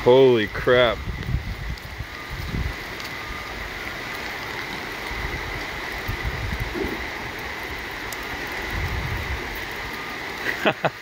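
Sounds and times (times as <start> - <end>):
wind rumbling on microphone: 0.0 - 10.1
heavy rain: 0.0 - 11.0
running floodwater: 0.0 - 11.0.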